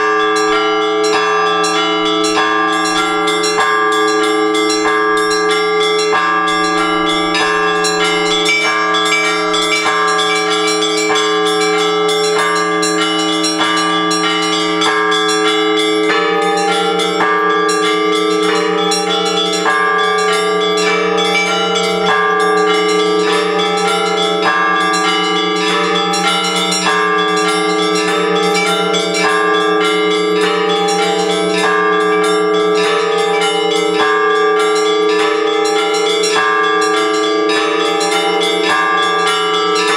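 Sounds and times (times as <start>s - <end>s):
deep church bells ringing: 0.0s - 39.9s
small high church bells: 0.0s - 39.9s.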